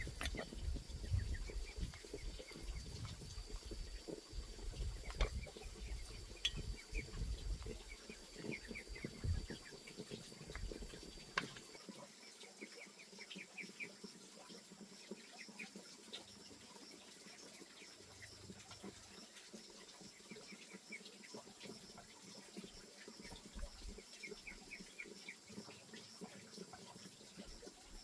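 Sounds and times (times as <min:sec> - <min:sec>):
insect drone: 0:00.0 - 0:28.0
small birds chirping: 0:00.0 - 0:28.0.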